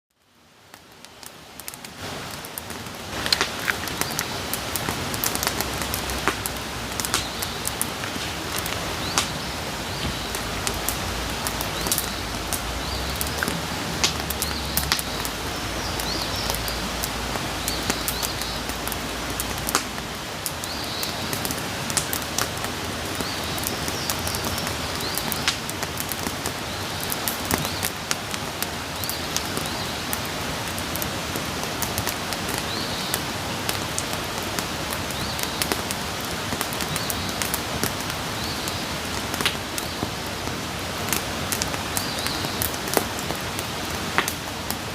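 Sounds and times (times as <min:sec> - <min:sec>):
campfire crackling and popping: 0:00.2 - 0:44.9.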